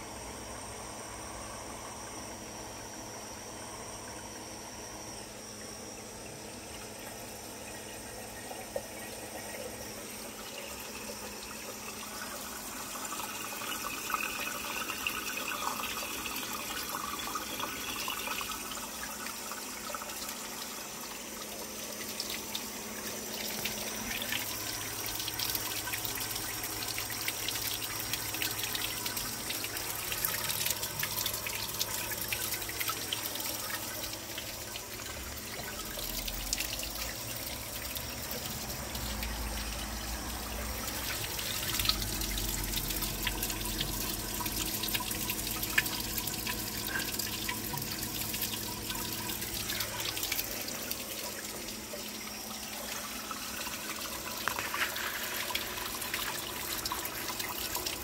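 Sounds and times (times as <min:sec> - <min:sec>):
toilet tank refilling: 0:05.1 - 0:58.0.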